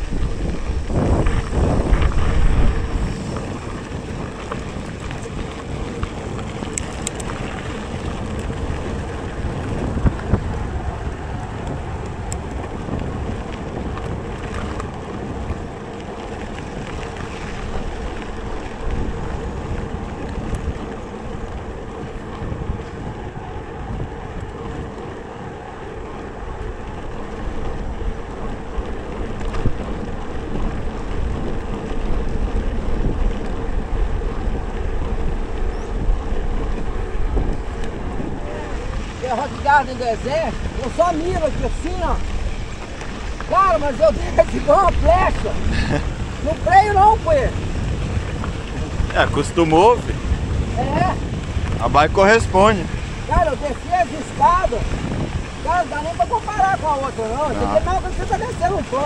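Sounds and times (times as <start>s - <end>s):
tyres rolling on dirt: 0.0s - 59.0s
wind buffeting microphone: 0.0s - 59.0s.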